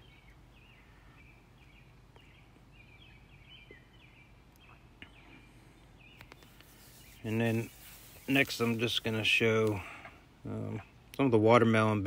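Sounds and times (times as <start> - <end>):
faint birdsong: 0.0 - 12.0
low steady hum: 0.0 - 12.0.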